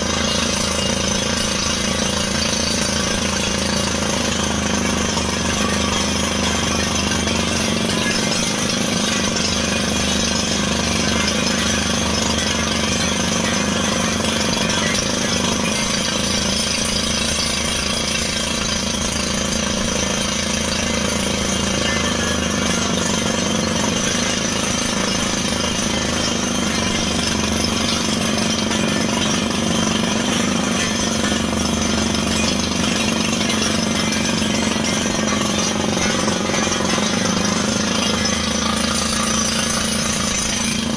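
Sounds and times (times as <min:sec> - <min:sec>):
drilling rig engine hum: 0:00.0 - 0:40.9
rapid mechanical rattle: 0:00.0 - 0:40.9.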